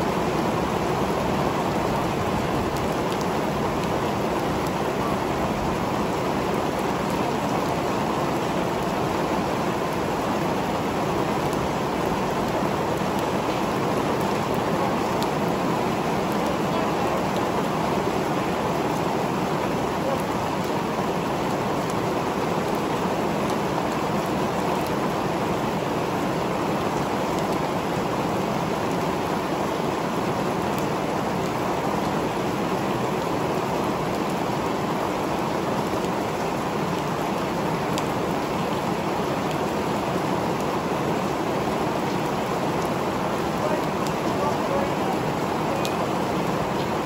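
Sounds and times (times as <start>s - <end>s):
rain pouring: 0.0s - 47.0s
raindrops ticking: 0.0s - 47.0s.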